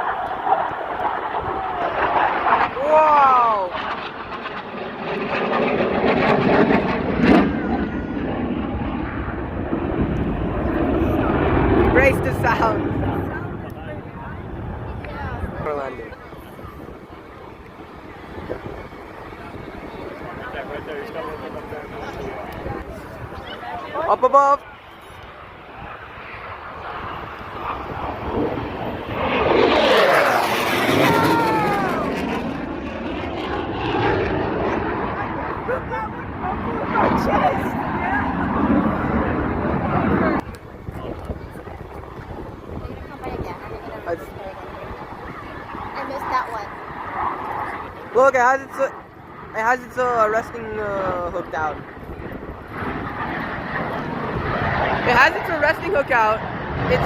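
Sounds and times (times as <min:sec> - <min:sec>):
jet flying past low: 0:00.0 - 0:57.0.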